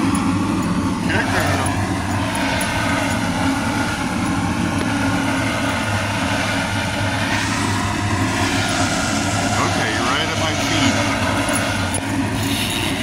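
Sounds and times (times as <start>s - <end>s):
engine droning at even speed: 0.0s - 13.0s.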